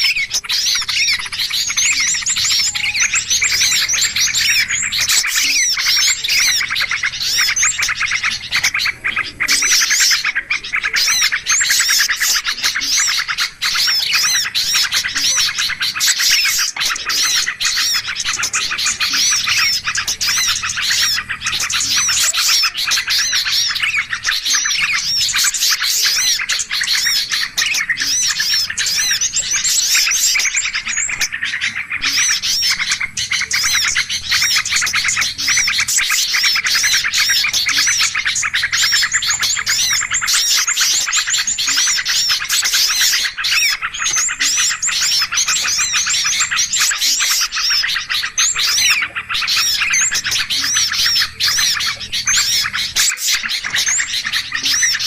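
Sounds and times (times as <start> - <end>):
small birds chirping in chorus: 0.0 - 55.0.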